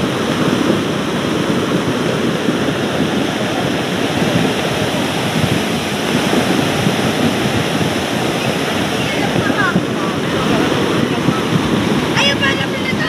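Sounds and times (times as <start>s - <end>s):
heavy rain downpour: 0.0s - 13.0s
rainwater rushing: 0.0s - 13.0s.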